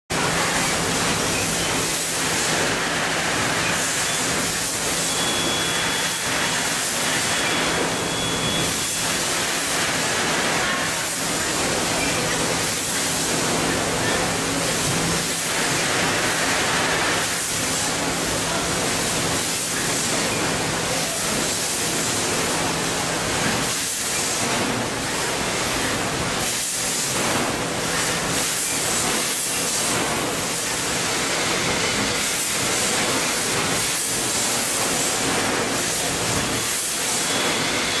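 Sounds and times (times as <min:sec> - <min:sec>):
packaging machinery hissing din: 0:00.3 - 0:38.0.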